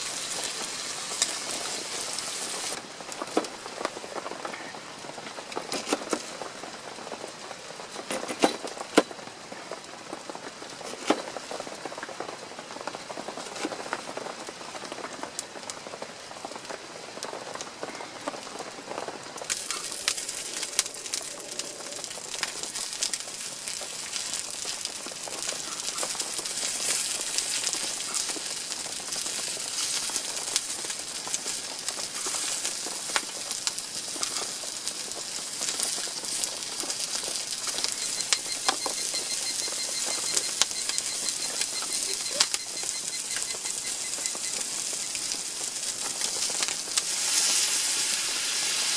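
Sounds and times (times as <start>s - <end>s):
rain falling: 0.0s - 48.9s
sharp crackles and pops: 0.0s - 48.9s.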